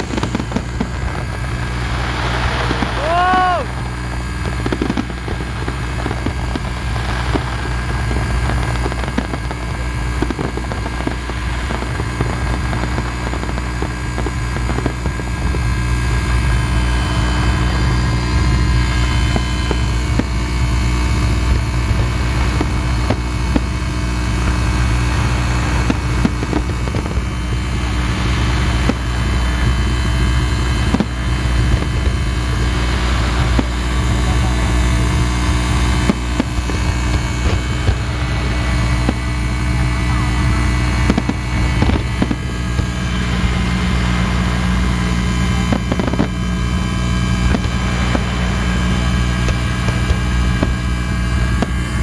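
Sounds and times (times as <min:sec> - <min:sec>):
firework cracks and pops: 0:00.0 - 0:52.0
low rumble of firework bursts: 0:00.0 - 0:52.0.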